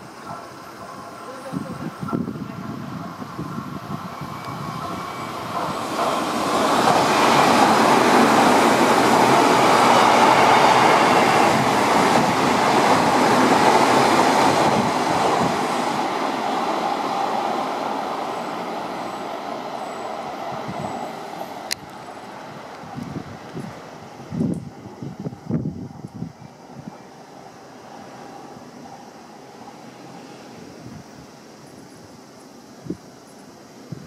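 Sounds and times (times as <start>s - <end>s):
electric train passing: 0.0s - 34.0s.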